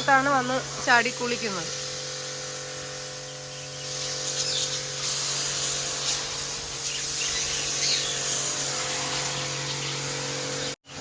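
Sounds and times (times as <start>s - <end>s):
pressure washer motor hum: 0.0s - 11.0s
pressure washer spraying water: 0.0s - 11.0s.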